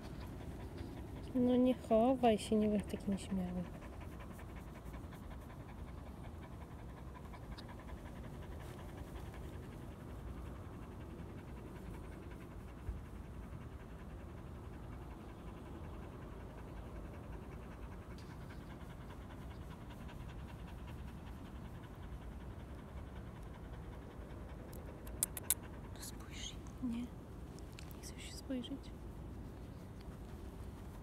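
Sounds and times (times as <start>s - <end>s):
dog panting: 0.0s - 31.0s.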